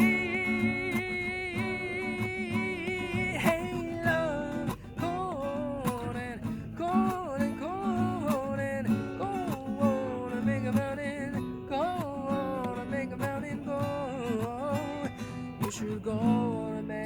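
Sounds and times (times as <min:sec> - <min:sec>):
acoustic guitar strumming: 0:00.0 - 0:17.0
person singing wordless melody: 0:00.0 - 0:17.0.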